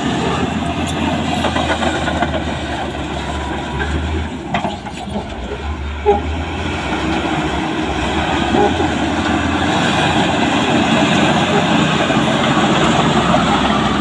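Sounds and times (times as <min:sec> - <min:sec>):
bulldozer diesel engine under load: 0:00.0 - 0:14.0
steel tracks clattering: 0:00.0 - 0:14.0.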